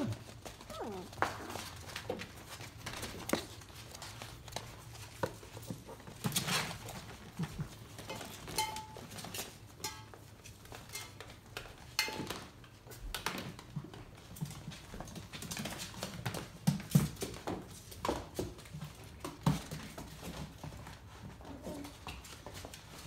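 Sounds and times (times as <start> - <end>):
puppy paws tapping on hard floor: 0.0 - 23.0.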